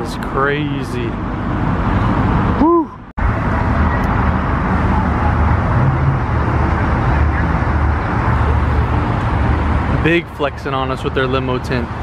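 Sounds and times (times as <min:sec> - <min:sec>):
car engine rumble: 0:00.0 - 0:12.0
tyre and street noise: 0:00.0 - 0:12.0.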